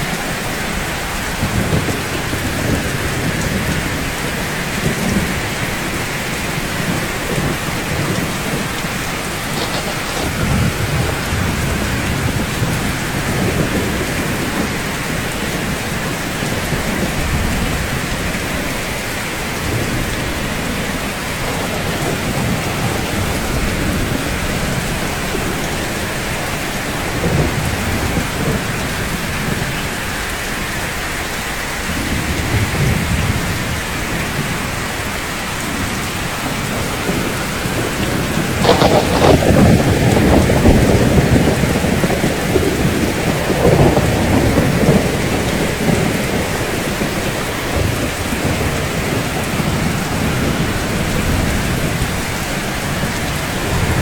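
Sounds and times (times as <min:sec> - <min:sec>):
rolling thunder: 0:00.0 - 0:30.9, 0:31.8 - 0:54.0
steady rain: 0:00.0 - 0:54.0.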